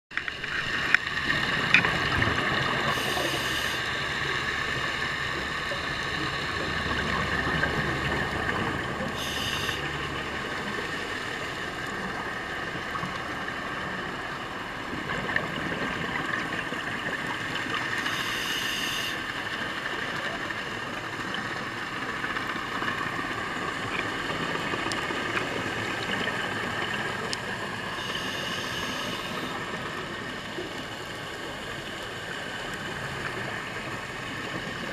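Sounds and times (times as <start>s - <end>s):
underwater droning whine: 0.1s - 34.9s
regulator exhaust bubbles hissing: 0.8s - 34.9s.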